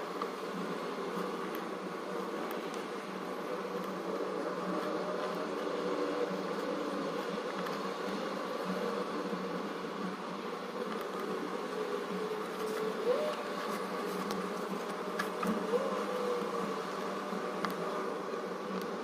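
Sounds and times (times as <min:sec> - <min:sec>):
steady buzzing hum: 0:00.0 - 0:19.0.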